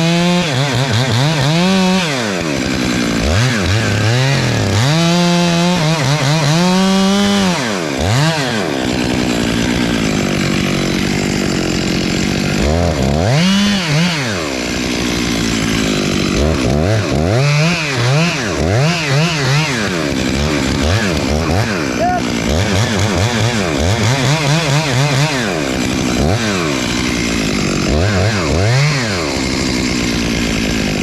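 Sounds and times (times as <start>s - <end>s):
chainsaw revving: 0.0s - 31.0s.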